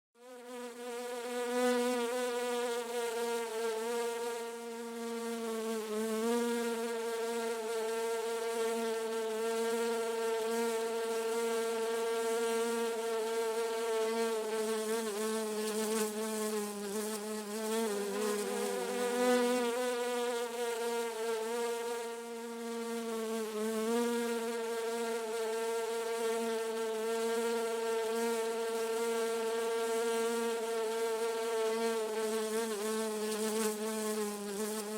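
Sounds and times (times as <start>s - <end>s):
bee buzzing in flight: 0.2s - 34.9s.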